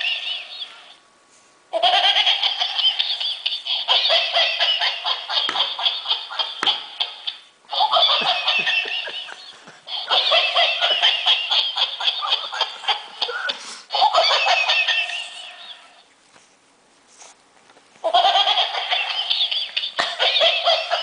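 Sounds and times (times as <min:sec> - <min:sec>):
toy speaker playing laughter: 0:00.0 - 0:00.9, 0:01.7 - 0:16.0, 0:18.0 - 0:21.0.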